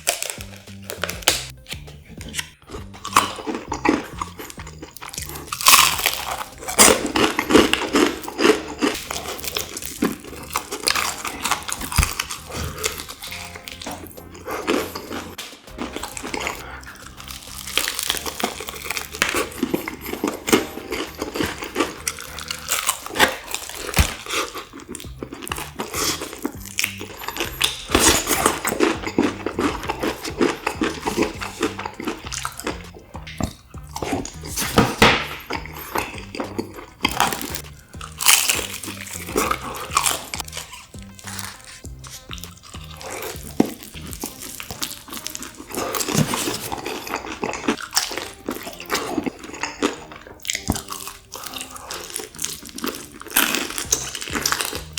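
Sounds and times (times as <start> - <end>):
background music with bass line: 0.0 - 49.0, 50.0 - 54.9
crunchy chewing of fried chicken: 0.0 - 54.9.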